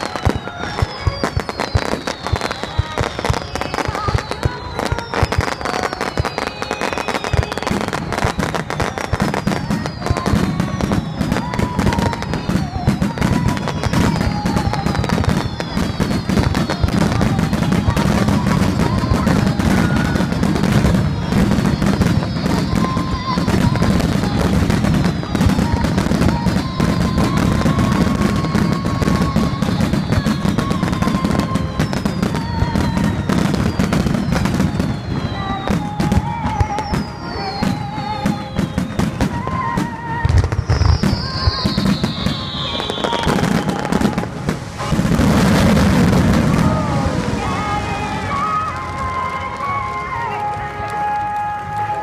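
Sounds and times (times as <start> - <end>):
firework whistles falling in pitch: 0.0 - 52.0
fireworks bangs and crackling: 0.0 - 52.0.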